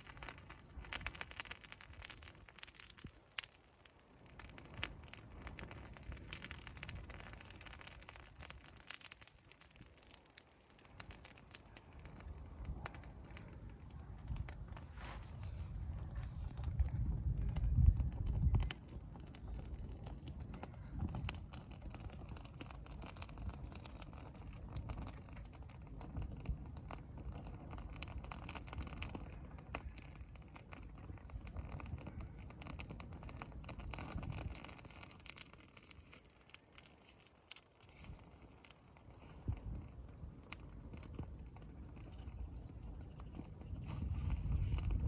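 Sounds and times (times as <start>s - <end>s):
burning straw crackling: 0.0s - 45.0s
low fire rumble: 0.0s - 45.0s.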